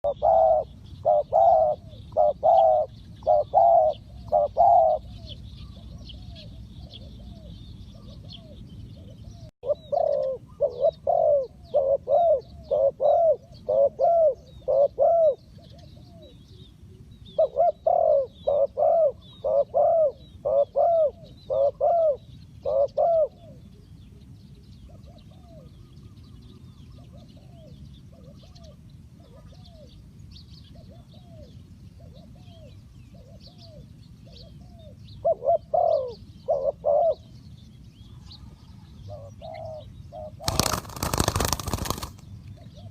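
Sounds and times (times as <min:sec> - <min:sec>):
doves cooing: 0:00.0 - 0:30.0, 0:30.7 - 0:37.3, 0:38.1 - 0:42.9
small birds chirping: 0:00.0 - 0:42.9.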